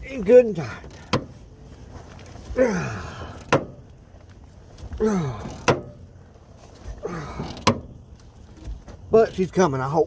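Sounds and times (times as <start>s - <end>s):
rusted bolt creaking: 0.0s - 9.5s.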